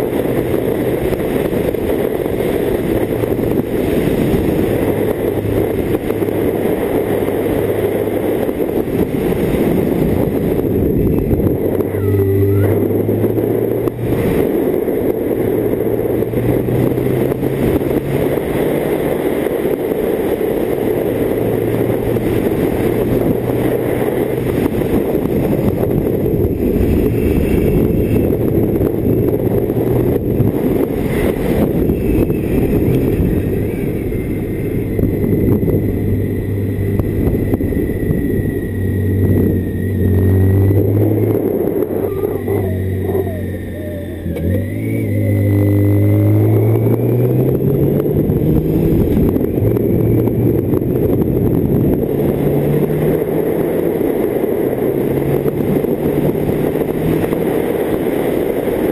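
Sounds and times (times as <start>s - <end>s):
motorcycle engine running: 0.0s - 58.9s
wind rushing on microphone: 0.0s - 58.9s.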